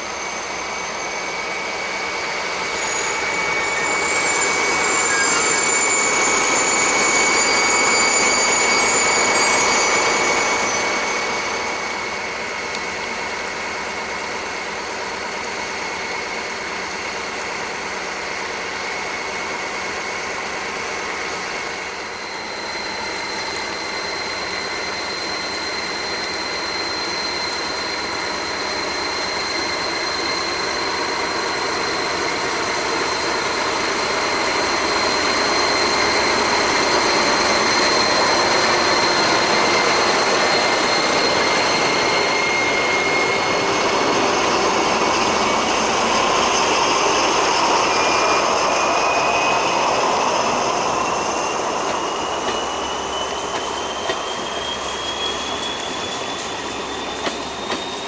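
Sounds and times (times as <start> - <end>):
diesel locomotive engines running: 0.0 - 58.0
thin high whine: 0.0 - 58.0.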